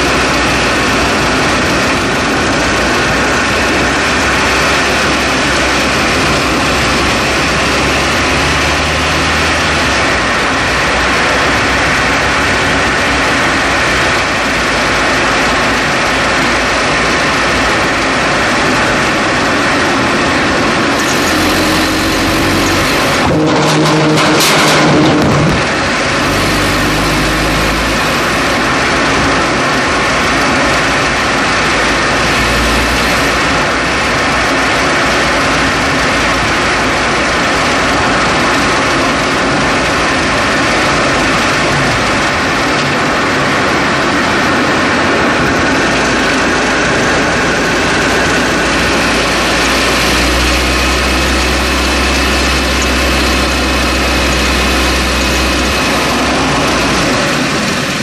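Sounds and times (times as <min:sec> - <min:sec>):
deep rumble: 0:00.0 - 0:58.0
road and tyre noise: 0:00.0 - 0:58.0.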